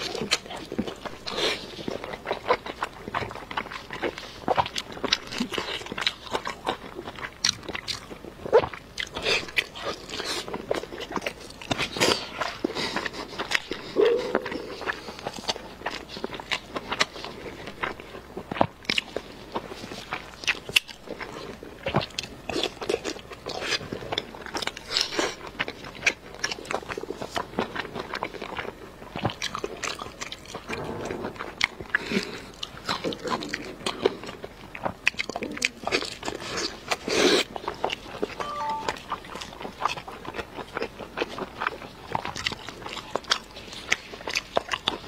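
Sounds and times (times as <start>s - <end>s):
crunchy biting and chewing: 0.0s - 45.0s.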